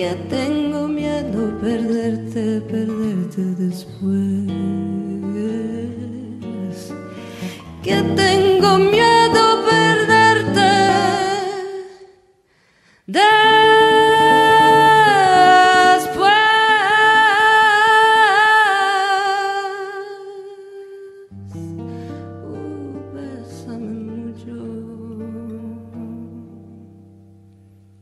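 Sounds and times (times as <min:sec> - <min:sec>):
woman singing: 0:00.0 - 0:12.2, 0:13.1 - 0:27.0
guitar: 0:00.0 - 0:28.0.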